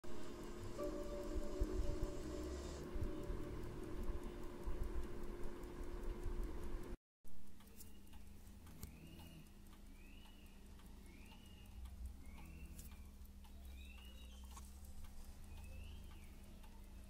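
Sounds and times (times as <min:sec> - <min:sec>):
alarm clock ticking: 0:00.2 - 0:17.0.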